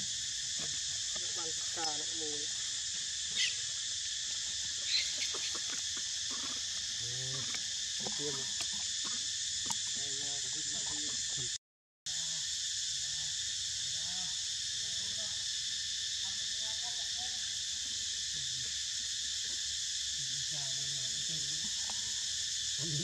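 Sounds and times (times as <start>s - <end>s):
drone of insects: 0.0s - 23.0s.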